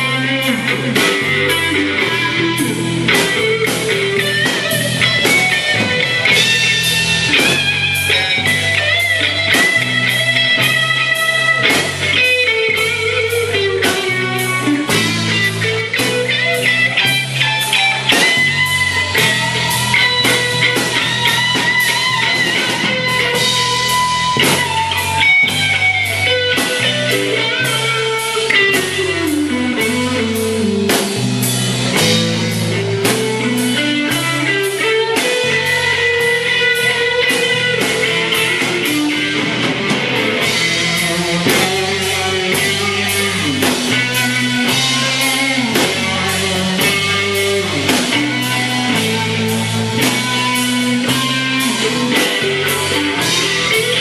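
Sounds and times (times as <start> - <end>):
bass line: 0.0 - 54.0
guitar melody: 0.0 - 54.0
steady drum beat: 0.0 - 54.0.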